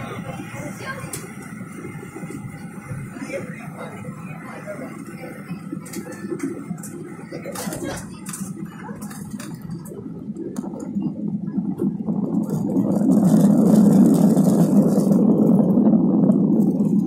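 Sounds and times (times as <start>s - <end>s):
jet engines roaring in cabin: 0.0s - 17.0s.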